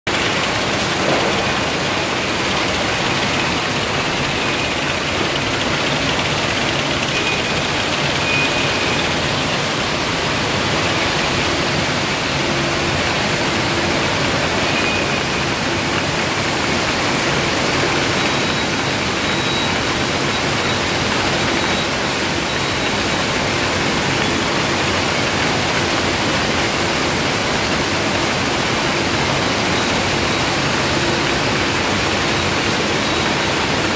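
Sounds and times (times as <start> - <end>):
conveyor with cans sliding: 0.1 - 33.9.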